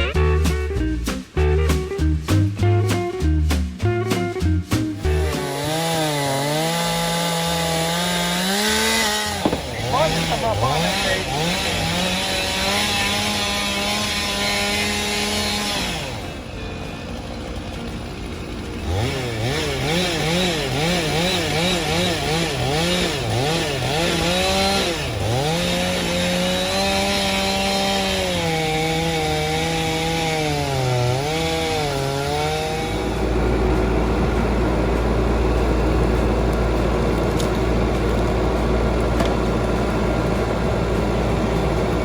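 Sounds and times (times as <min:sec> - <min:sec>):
chainsaw running: 0:04.9 - 0:42.0.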